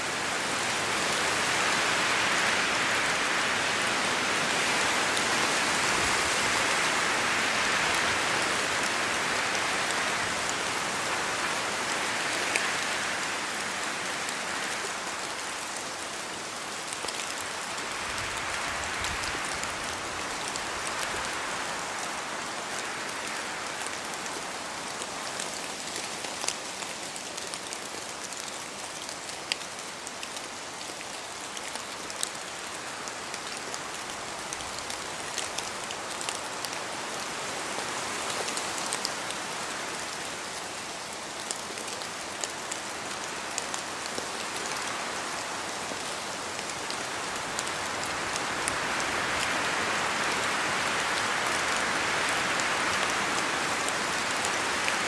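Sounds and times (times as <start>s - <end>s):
rain falling through trees: 0.0s - 55.0s.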